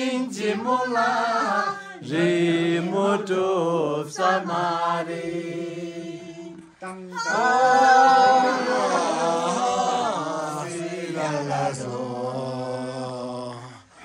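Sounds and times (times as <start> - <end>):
group singing without instruments: 0.0 - 14.0.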